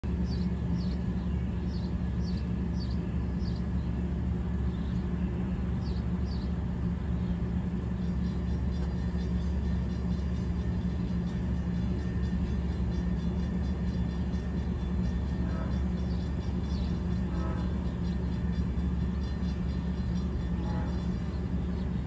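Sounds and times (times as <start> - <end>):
diesel locomotive idling: 0.0 - 22.0
bird chirping: 0.2 - 6.6, 7.2 - 22.0.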